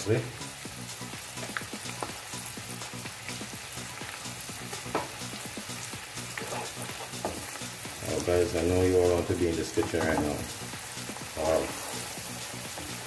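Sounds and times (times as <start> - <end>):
sauce sizzling and bubbling in pan: 0.0 - 13.0.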